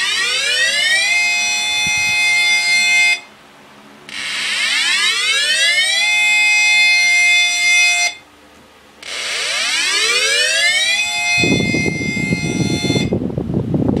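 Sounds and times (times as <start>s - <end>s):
warning siren wailing: 0.0s - 3.3s, 4.1s - 8.3s, 9.0s - 13.2s.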